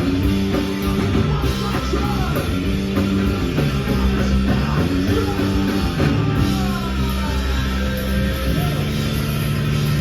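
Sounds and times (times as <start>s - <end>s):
punk rock band playing: 0.0s - 10.0s.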